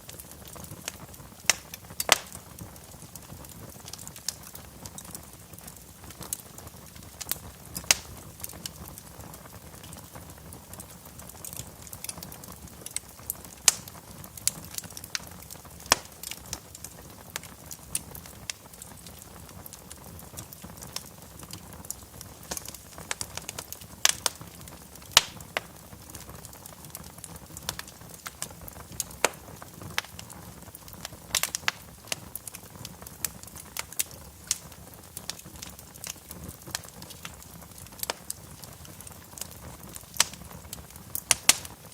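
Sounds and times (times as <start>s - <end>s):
fire crackling and popping: 0.0s - 41.9s
low fire hiss: 0.0s - 41.9s.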